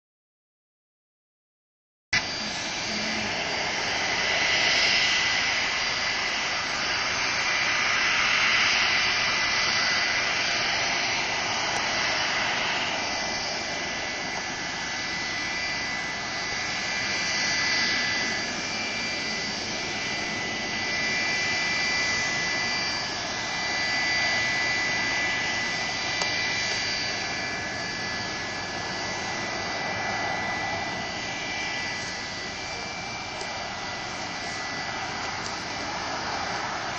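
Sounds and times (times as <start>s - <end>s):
jet engines running: 2.2s - 36.9s.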